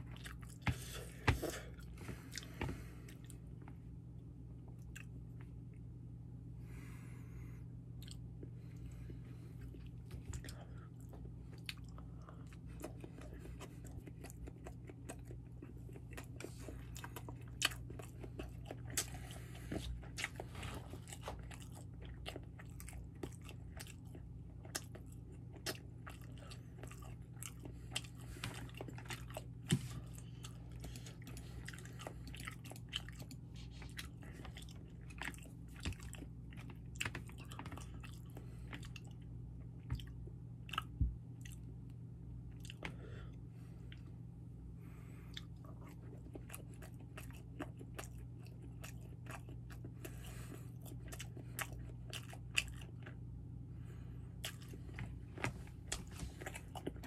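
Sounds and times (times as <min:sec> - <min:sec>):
person chewing food: 0:00.0 - 0:05.9, 0:07.8 - 0:44.2, 0:44.9 - 0:57.0
steady low hum: 0:00.0 - 0:57.0.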